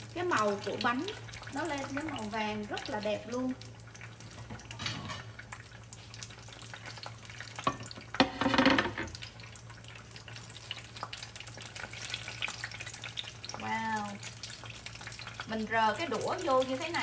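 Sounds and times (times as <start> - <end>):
oil crackling and popping: 0.0 - 17.0.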